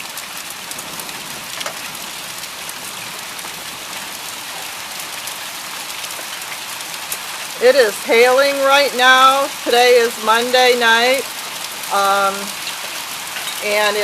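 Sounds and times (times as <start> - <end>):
hailstones ticking on surfaces: 0.0 - 14.0
heavy rain hissing: 0.0 - 14.0.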